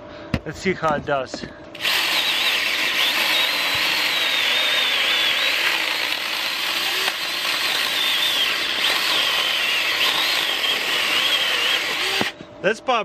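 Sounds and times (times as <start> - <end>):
electric chainsaw cutting wood: 1.8 - 12.4.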